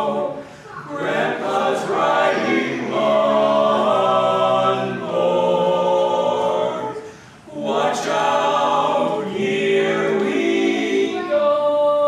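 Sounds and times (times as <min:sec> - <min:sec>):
a cappella quartet singing: 0:00.0 - 0:12.0.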